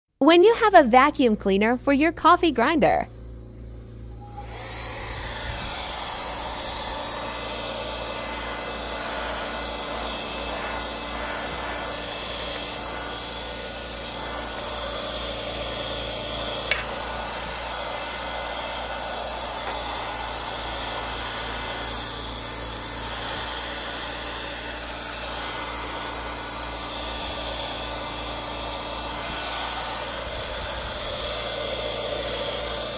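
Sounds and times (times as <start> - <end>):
handheld vacuum cleaner running: 3.7 - 32.9.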